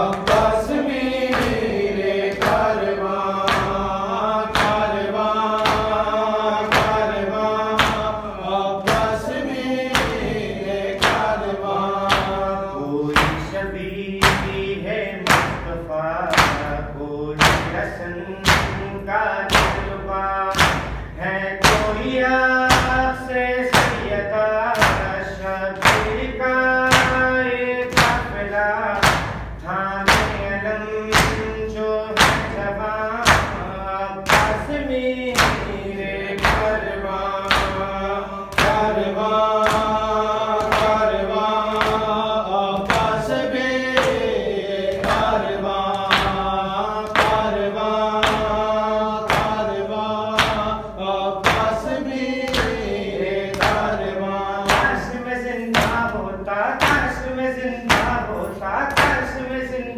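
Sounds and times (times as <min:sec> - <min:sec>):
hands beating chests: 0:00.0 - 0:55.1, 0:55.7 - 0:57.2, 0:57.9 - 0:59.4
man chanting a lament into a microphone: 0:00.0 - 0:59.9.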